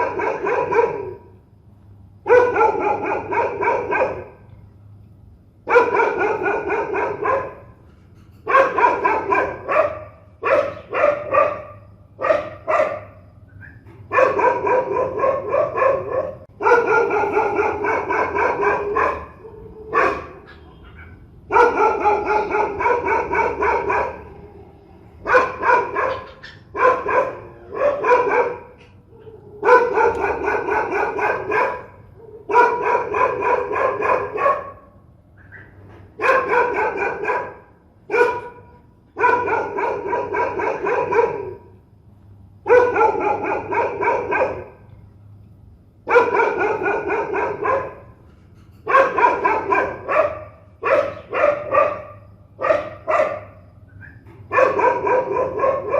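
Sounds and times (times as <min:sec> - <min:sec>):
dog barking fiercely: 0:00.0 - 0:01.4, 0:02.2 - 0:04.5, 0:05.6 - 0:41.8, 0:42.6 - 0:44.9, 0:46.0 - 0:55.9.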